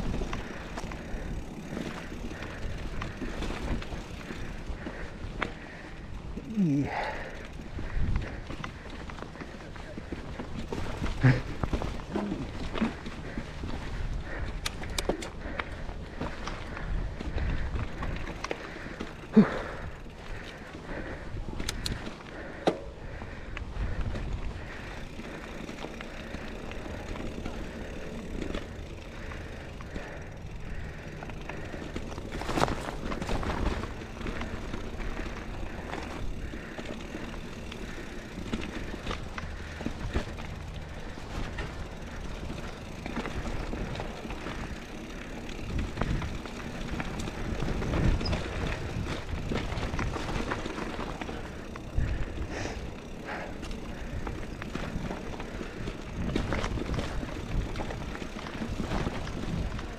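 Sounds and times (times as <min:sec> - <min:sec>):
bike rattling and knocking: 0:00.0 - 0:59.9
bike tyres on rocky dirt: 0:00.0 - 0:59.9.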